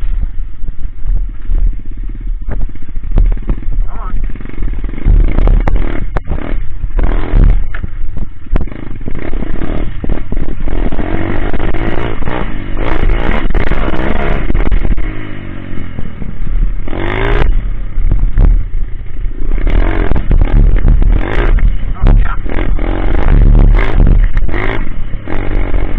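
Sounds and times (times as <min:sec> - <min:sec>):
motorbike engine revving: 0:00.0 - 0:25.9.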